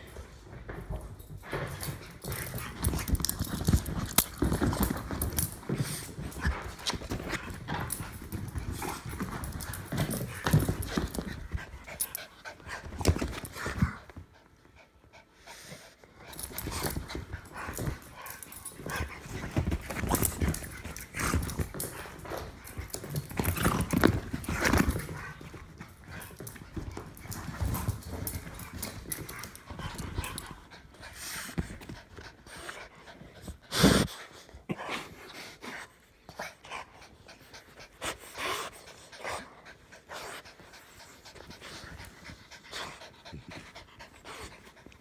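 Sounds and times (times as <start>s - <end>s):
dogs scuffling and scrabbling: 0.0s - 14.6s, 16.0s - 34.1s, 40.0s - 45.0s
dogs panting: 1.2s - 45.0s.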